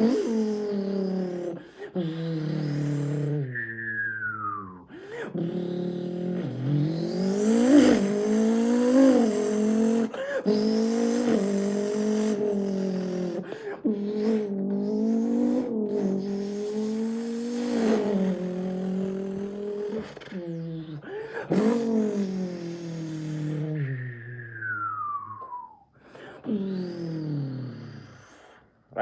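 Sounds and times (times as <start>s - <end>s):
man imitating engine revving: 0.0s - 25.7s.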